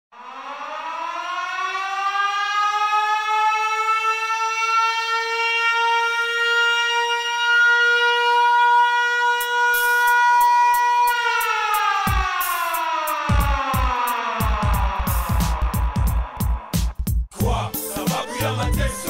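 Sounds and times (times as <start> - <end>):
siren wailing: 0.1 - 17.0.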